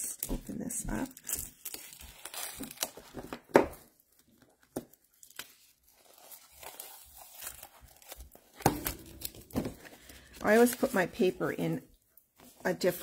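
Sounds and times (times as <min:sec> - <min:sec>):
plastic wrap crinkling: 0:00.1 - 0:13.0.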